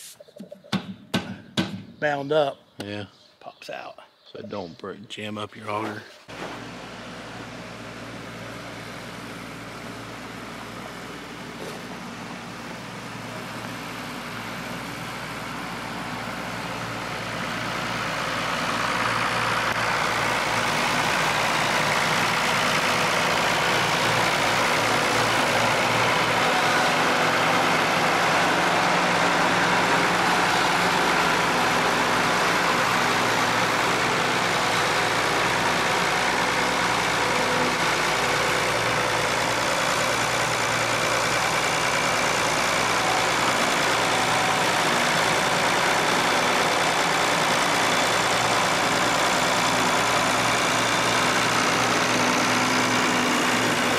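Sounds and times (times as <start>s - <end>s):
tractor engine running: 4.4s - 53.9s.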